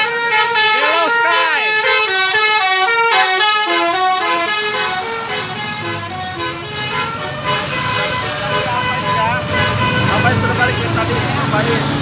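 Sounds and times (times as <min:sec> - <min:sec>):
bus engine and road noise: 0:00.0 - 0:12.0
multi-tone bus horn melody: 0:00.0 - 0:12.0.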